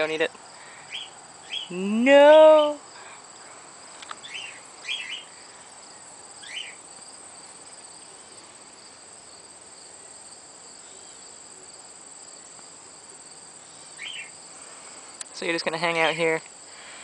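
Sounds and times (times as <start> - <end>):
short insect chirps: 0.0 - 2.0, 2.6 - 11.5, 12.3 - 17.0
insects trilling: 0.0 - 17.0.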